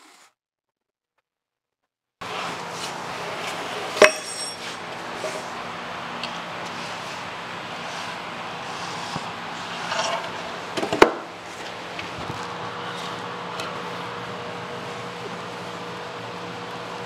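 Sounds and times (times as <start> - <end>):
low shop hum: 2.2 - 17.0.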